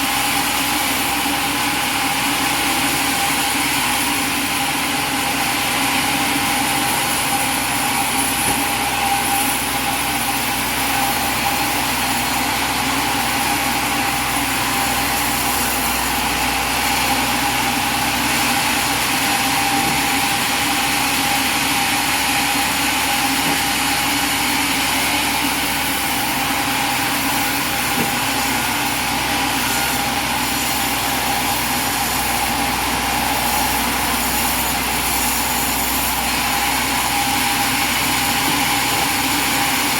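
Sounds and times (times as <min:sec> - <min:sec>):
portable sawmill engine running: 0:00.0 - 0:39.9.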